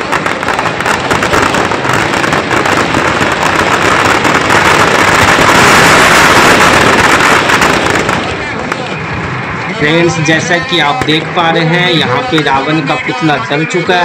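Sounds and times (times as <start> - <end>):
firecrackers crackling: 0.0 - 14.0.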